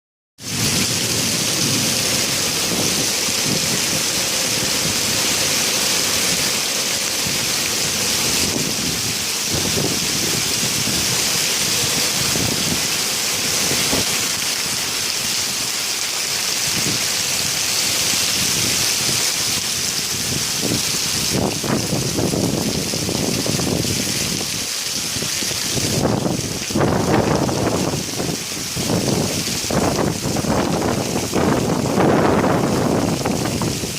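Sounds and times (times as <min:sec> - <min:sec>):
heavy rain pouring: 0:00.4 - 0:33.9
wind rumbling on microphone: 0:00.4 - 0:33.9.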